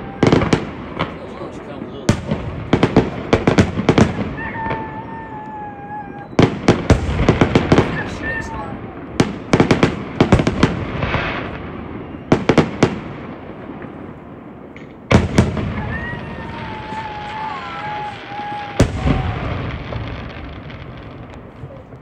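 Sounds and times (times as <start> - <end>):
fireworks bursting with echoing bangs: 0.0 - 22.0.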